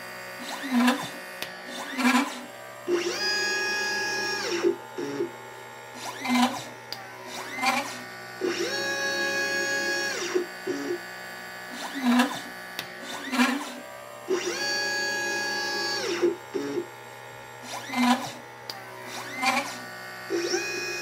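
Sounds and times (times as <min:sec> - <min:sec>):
stepper motors whining: 0:00.4 - 0:05.4, 0:06.0 - 0:16.9, 0:17.6 - 0:21.0.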